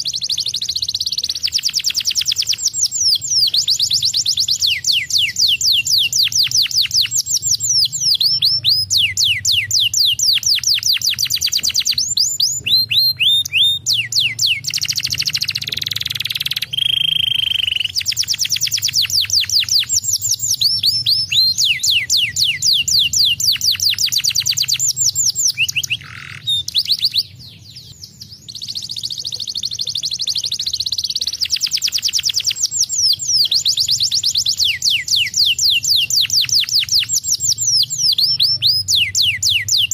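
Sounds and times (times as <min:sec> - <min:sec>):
canary trilling: 0:00.0 - 0:39.9.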